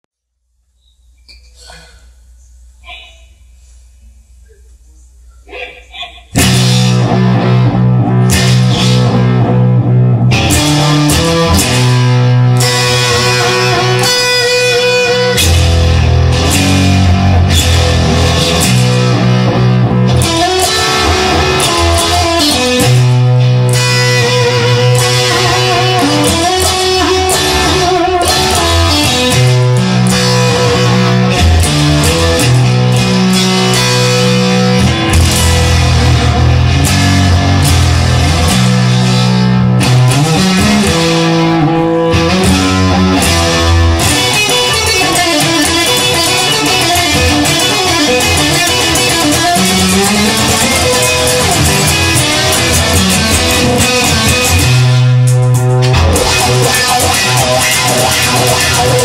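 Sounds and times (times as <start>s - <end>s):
instrumental rock electric guitar: 6.4s - 59.0s.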